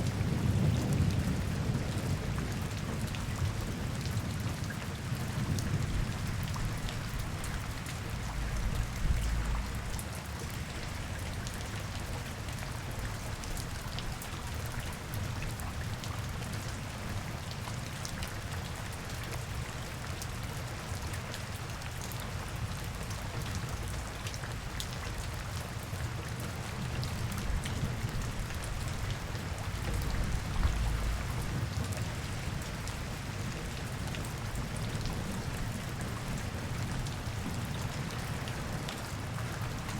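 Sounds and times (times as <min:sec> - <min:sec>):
rain pattering on hard surfaces: 0:00.0 - 0:39.9.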